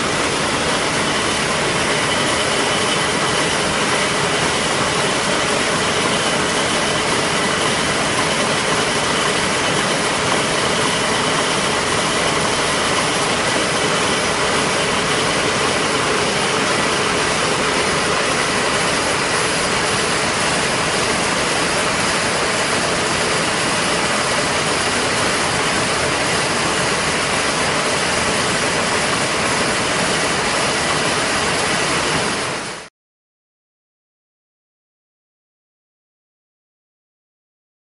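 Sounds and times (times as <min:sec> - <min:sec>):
machine running with whining: 0:00.0 - 0:32.9.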